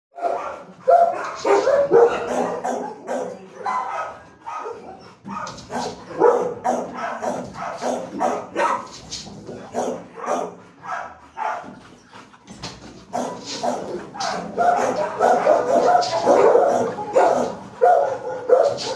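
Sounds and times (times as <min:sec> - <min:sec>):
dog barking: 0:00.2 - 0:09.0, 0:09.6 - 0:11.8, 0:13.1 - 0:18.9.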